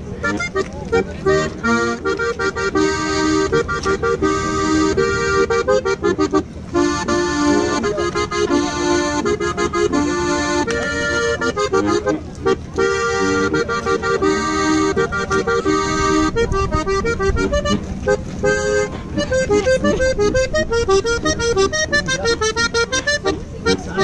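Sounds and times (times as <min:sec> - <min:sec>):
accordion dance tune: 0:00.0 - 0:24.0.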